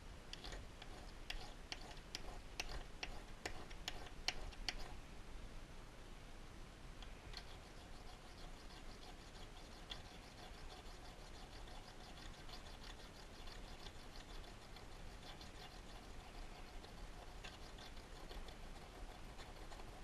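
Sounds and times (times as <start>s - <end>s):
tool scratching on sharpening stone: 0.4s - 5.0s, 7.4s - 19.9s.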